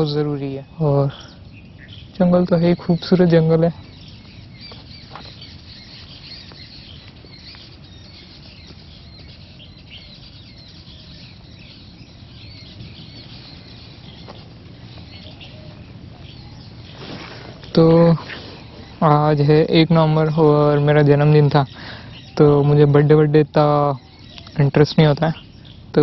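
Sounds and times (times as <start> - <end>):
birds chirping: 0.0 - 26.0
steady low rumble: 0.0 - 26.0.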